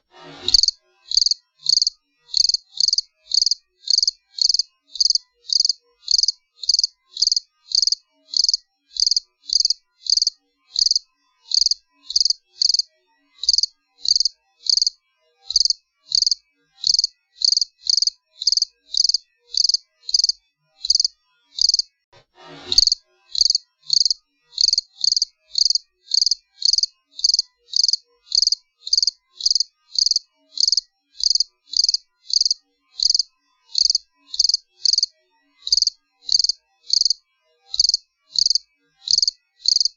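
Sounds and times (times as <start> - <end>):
cricket chirping: 0.5 - 21.9, 22.8 - 35.1, 35.7 - 37.2, 37.8 - 39.9.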